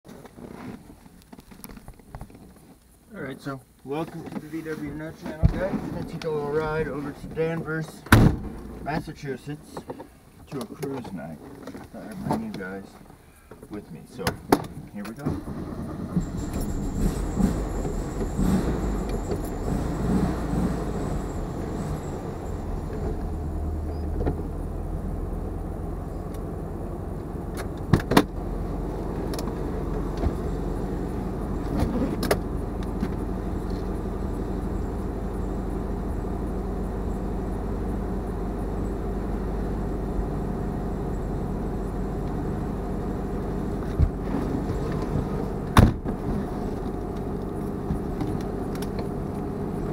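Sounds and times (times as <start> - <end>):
car engine running at low revs: 4.5 - 11.0, 14.8 - 49.9.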